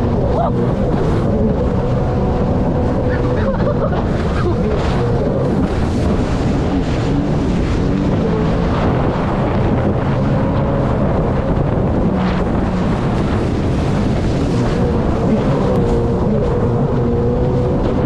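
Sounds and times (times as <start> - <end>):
watercraft engine running: 0.0 - 18.0
wind buffeting microphone: 0.0 - 18.0.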